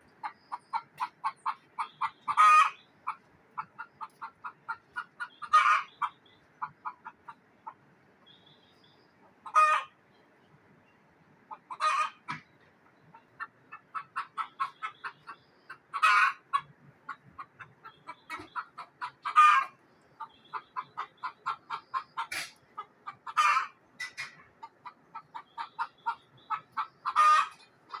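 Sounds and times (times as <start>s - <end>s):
hen clucking: 0.0s - 10.5s, 11.4s - 28.0s.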